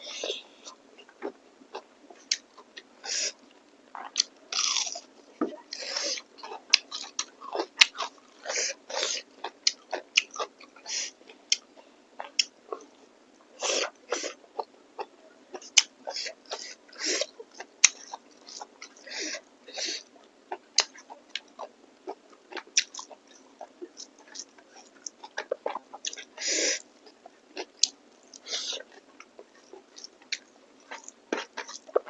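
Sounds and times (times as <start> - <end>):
person chewing food: 0.0 - 13.0, 13.6 - 32.0.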